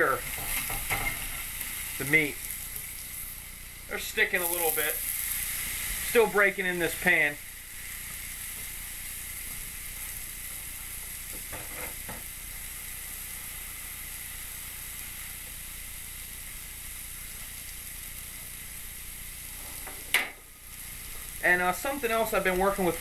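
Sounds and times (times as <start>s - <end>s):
meat sizzling on a griddle: 0.0s - 23.0s.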